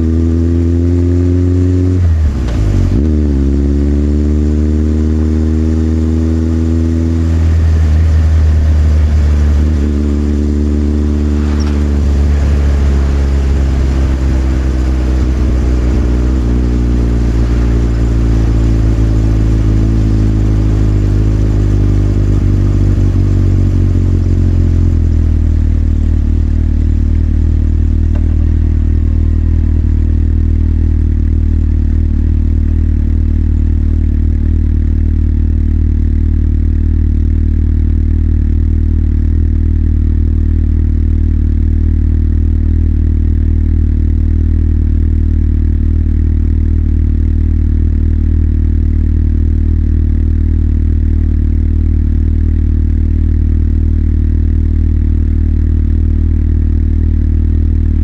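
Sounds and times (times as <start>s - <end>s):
motorcycle engine idling: 6.4s - 58.0s.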